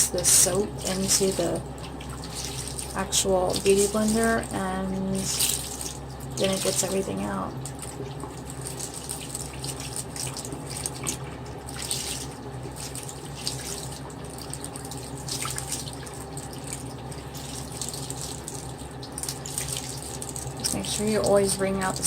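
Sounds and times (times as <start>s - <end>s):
sponge scrubbing on soap: 0.0s - 22.0s.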